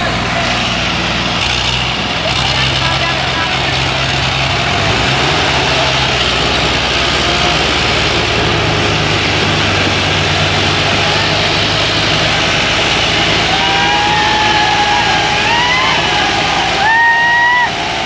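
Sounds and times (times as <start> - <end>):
tractor diesel engines under load: 0.0 - 18.0.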